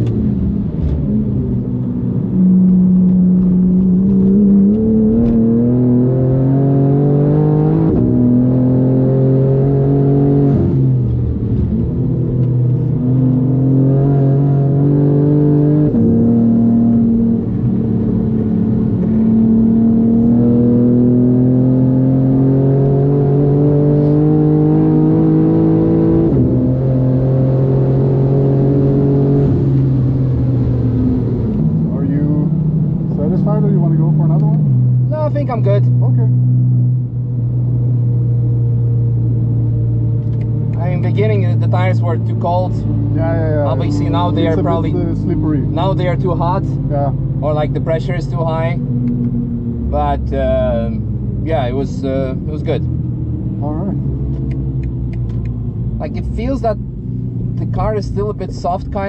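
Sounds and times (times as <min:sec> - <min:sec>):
car engine revving under hard throttle: 0:00.0 - 0:59.0.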